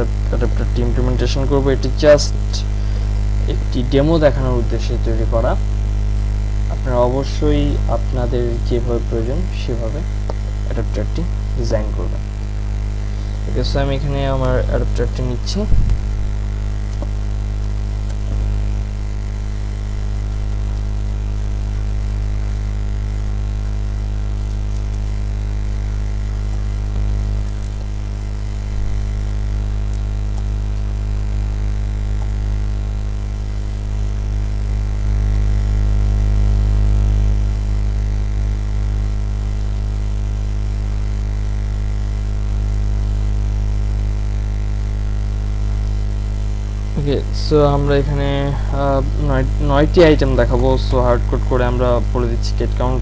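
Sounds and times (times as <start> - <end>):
electrical mains hum: 0.0 - 53.0.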